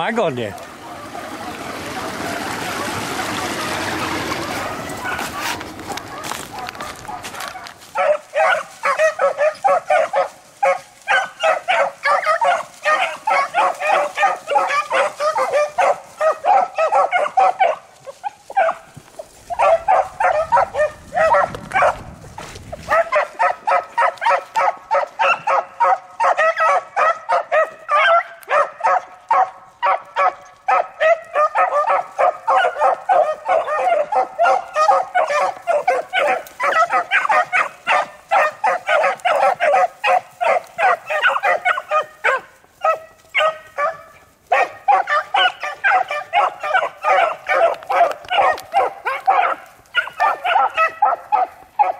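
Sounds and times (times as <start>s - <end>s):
hounds baying and barking: 0.0s - 51.9s.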